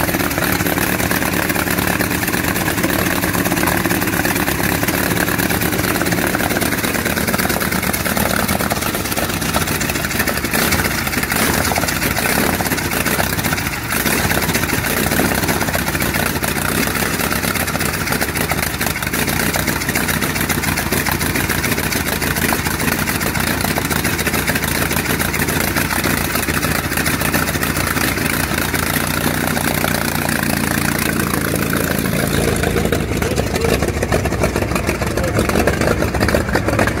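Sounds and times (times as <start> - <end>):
engine running with open exhaust: 0.0 - 37.0.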